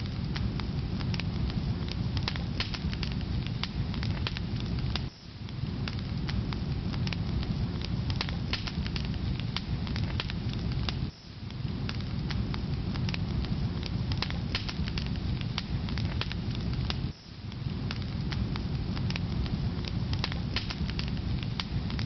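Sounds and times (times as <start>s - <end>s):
firewood popping and snapping: 0.0s - 22.0s
low rumble of flames: 0.0s - 22.0s.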